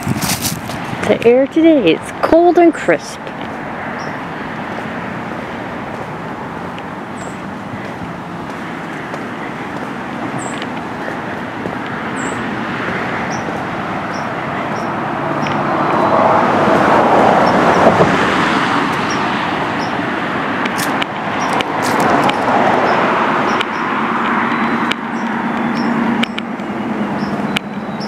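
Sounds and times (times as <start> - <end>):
cars passing: 0.0 - 28.0.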